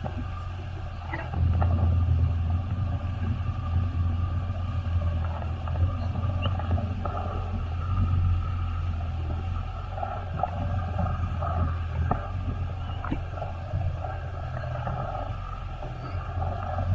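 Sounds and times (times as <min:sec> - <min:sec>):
jet ski engine droning: 0:00.0 - 0:16.9.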